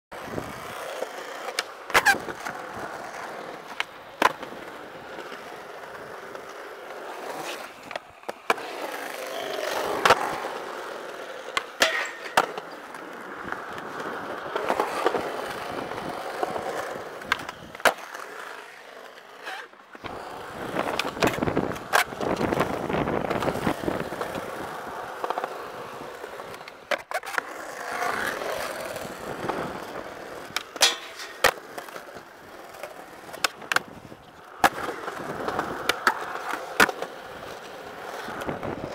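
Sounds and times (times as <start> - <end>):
skateboard wheels rolling on concrete: 0.1 - 38.9
skateboard wooden clacks: 0.2 - 10.6, 11.4 - 18.3, 19.4 - 38.9.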